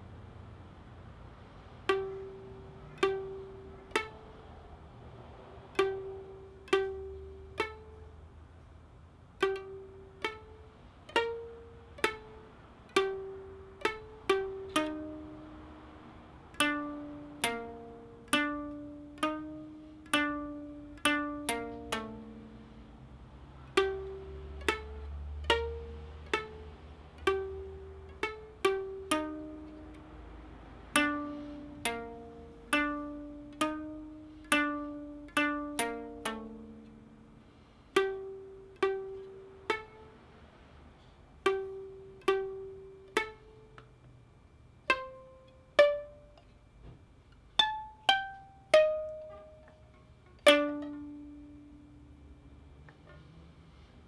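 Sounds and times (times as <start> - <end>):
koto plucked melody: 0.0 - 44.2, 44.8 - 53.9.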